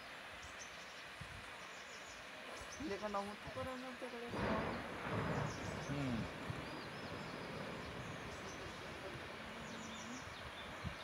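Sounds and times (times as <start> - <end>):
faint birds chirping: 0.0 - 11.0
steady outdoor hiss: 0.0 - 11.0.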